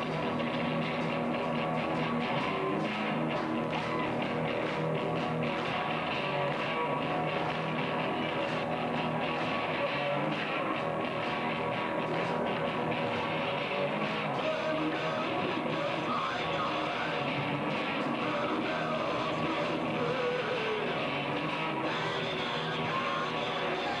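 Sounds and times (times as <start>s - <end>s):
electric guitars: 0.0s - 24.0s.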